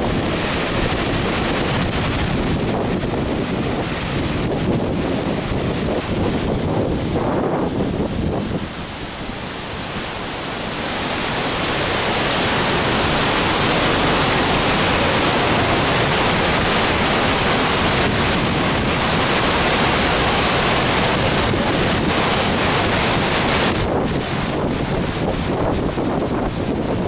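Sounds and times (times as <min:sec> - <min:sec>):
water jets roaring into river: 0:00.0 - 0:27.0
wind on microphone: 0:00.0 - 0:27.0.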